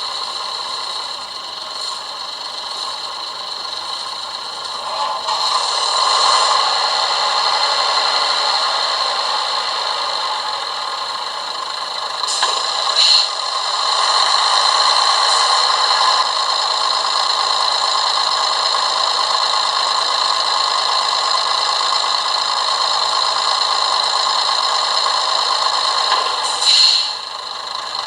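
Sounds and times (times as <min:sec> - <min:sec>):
model railcar engine sound: 0:00.0 - 0:28.0.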